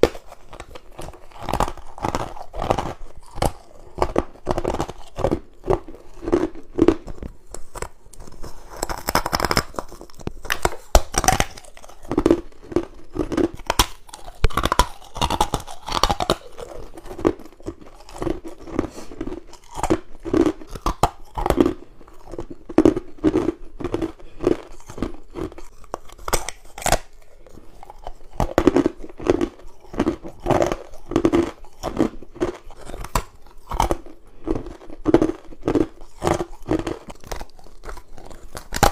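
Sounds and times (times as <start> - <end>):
chewing: 0.0 - 38.9
crunching ice: 0.0 - 38.9.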